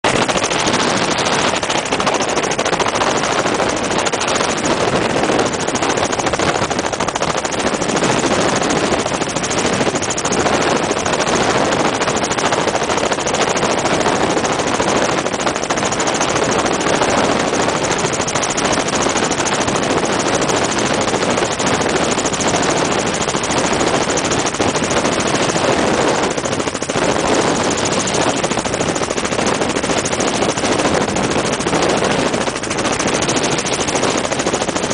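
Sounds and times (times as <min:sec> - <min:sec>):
helicopter engine and rotor noise: 0:00.0 - 0:34.9.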